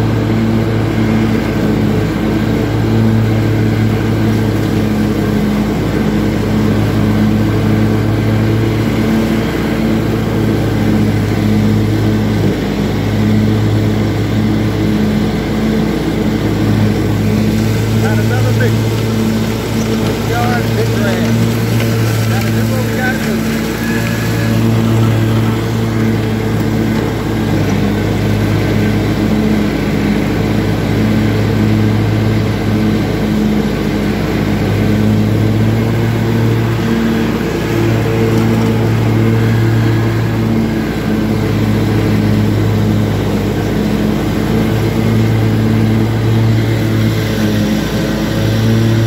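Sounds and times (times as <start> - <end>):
lawn mower engine running: 0.0 - 49.0.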